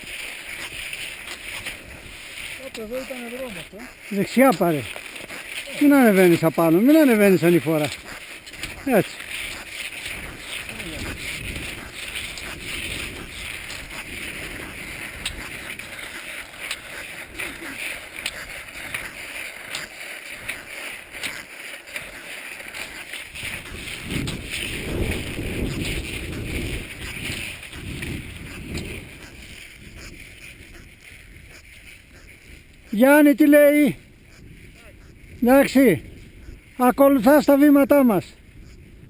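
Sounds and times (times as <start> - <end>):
ski pole clicks: 0.0 - 33.0
skis sliding over snow: 0.0 - 39.0
wind rumbling on microphone: 0.0 - 39.0.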